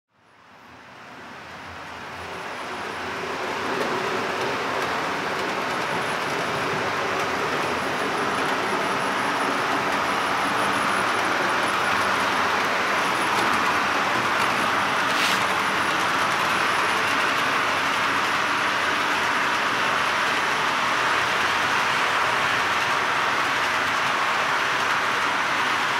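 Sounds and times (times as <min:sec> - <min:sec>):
model train wheels rolling on track: 0:01.2 - 0:25.9.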